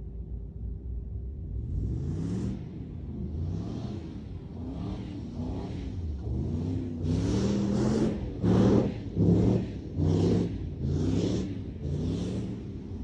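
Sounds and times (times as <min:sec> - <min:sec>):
car engine revving: 0:01.6 - 0:13.0.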